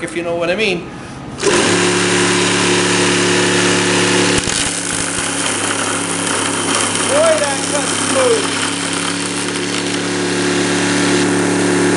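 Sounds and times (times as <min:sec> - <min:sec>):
chainsaw running: 0:01.4 - 0:11.9.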